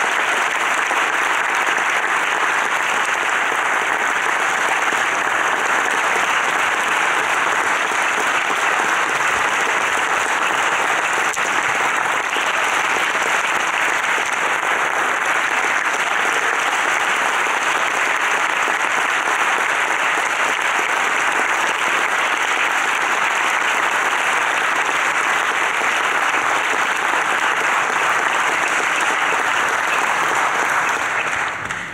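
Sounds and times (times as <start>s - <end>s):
audience applauding: 0.0s - 31.9s.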